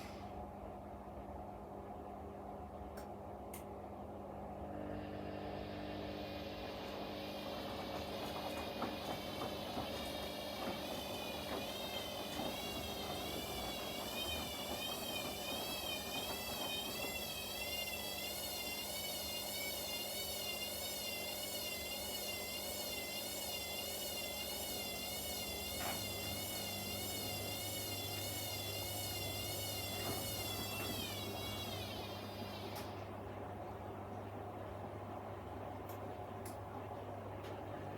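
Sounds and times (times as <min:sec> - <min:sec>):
washing machine motor whine: 0:00.0 - 0:37.9.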